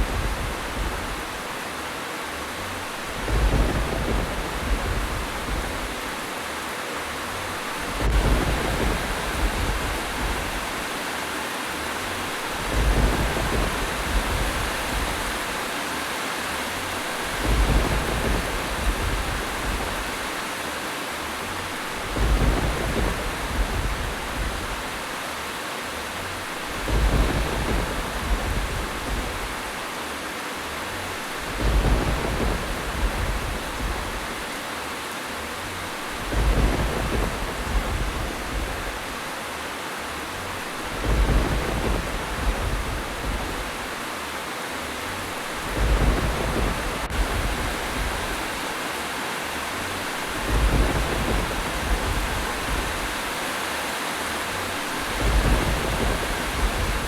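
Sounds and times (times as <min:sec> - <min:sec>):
low thunder rumbles: 0:00.0 - 0:01.6, 0:02.6 - 0:11.1, 0:11.7 - 0:15.8, 0:16.5 - 0:20.6, 0:21.2 - 0:25.3, 0:26.0 - 0:30.0, 0:30.7 - 0:44.3, 0:44.9 - 0:48.9, 0:49.6 - 0:53.5, 0:54.4 - 0:57.0
rain hiss: 0:00.0 - 0:57.0.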